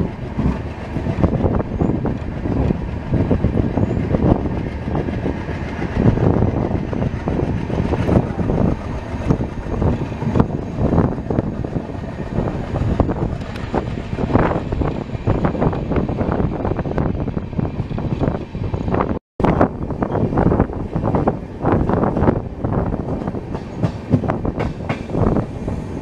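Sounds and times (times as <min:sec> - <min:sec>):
moving train rumbling: 0:00.0 - 0:26.0
wheels rattling over track: 0:00.0 - 0:26.0.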